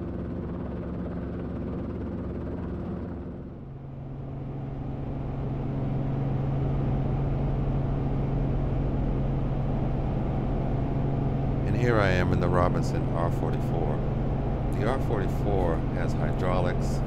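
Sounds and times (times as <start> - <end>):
helicopter drone from inside cabin: 0.0 - 17.0.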